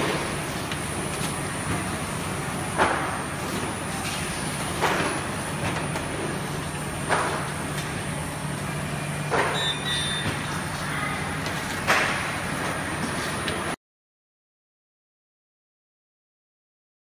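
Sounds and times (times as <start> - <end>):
machine hum: 0.0 - 13.8.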